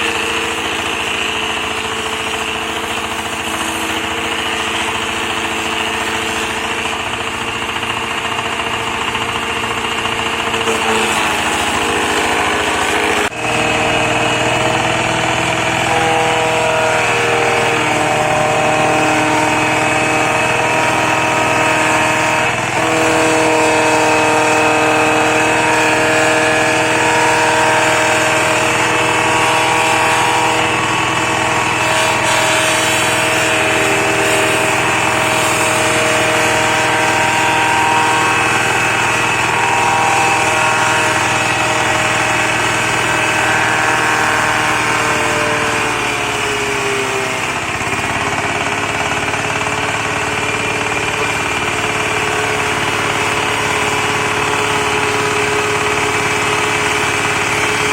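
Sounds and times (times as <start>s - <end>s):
shredder engine running: 0.0s - 57.9s.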